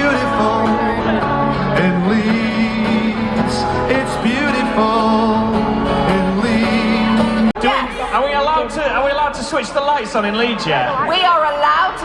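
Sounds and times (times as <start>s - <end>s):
live pop music: 0.0s - 9.8s.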